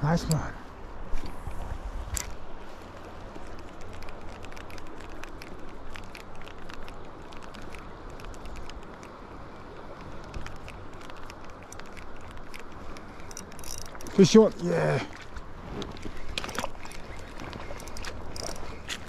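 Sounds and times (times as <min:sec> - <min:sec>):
light clicks and ticks: 0:02.1 - 0:19.0.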